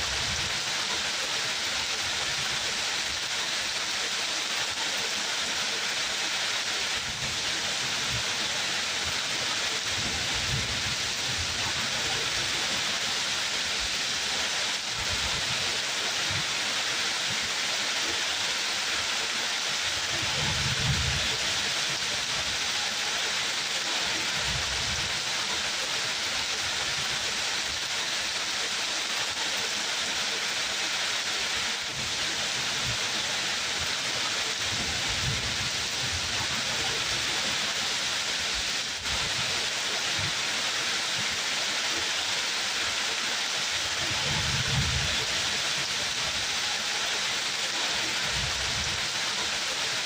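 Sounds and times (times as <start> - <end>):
rain falling: 0.0 - 50.0.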